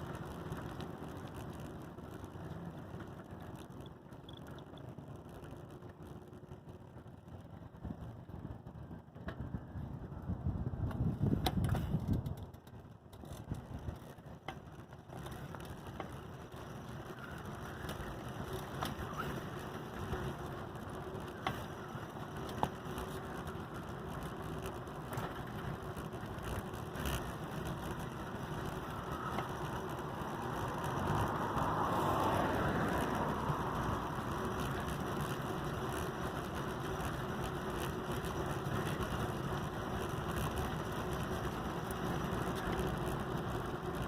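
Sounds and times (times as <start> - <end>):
tricycle wheels rolling on road: 0.0 - 44.0.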